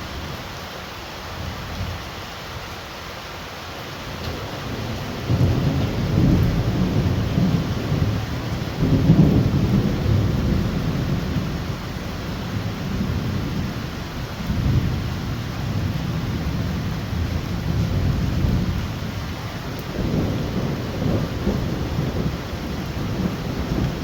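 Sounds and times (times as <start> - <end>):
heavy rain falling: 0.0 - 24.0
thunder rumbling: 4.3 - 24.0.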